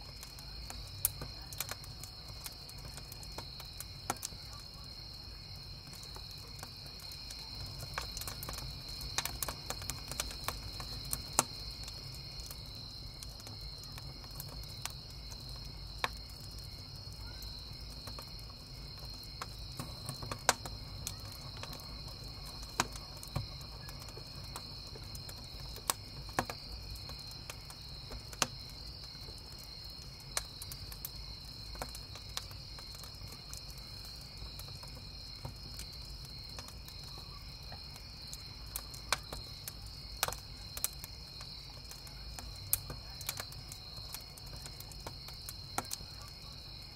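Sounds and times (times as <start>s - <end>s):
campfire crackling and popping: 0.0s - 46.9s
crickets chirping: 0.0s - 46.9s.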